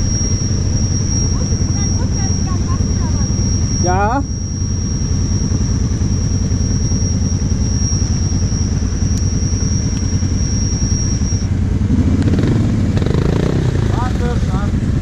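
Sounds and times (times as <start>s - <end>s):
engine idling: 0.0s - 15.0s
thin high whine: 0.0s - 15.0s.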